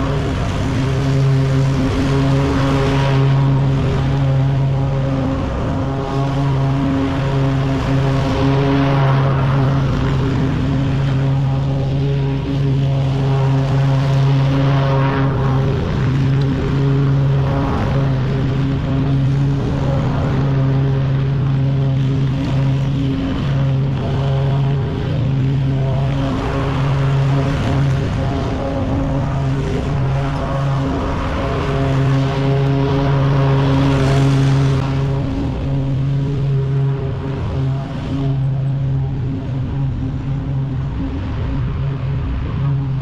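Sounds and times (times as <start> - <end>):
lawn mower engine running: 0.0 - 37.7.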